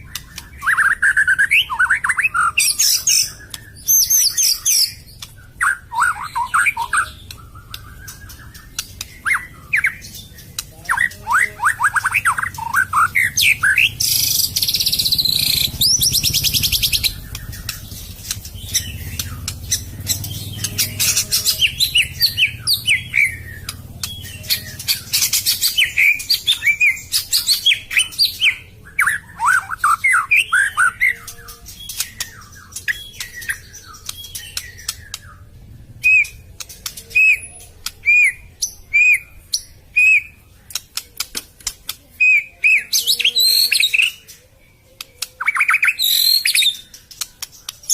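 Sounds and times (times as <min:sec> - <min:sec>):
bird singing whistled song: 0:00.0 - 0:40.4, 0:42.2 - 0:47.9.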